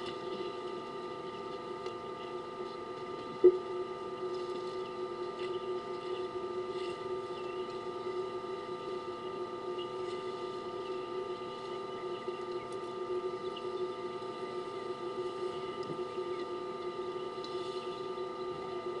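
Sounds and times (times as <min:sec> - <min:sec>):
hum of held tones: 0:00.0 - 0:19.0.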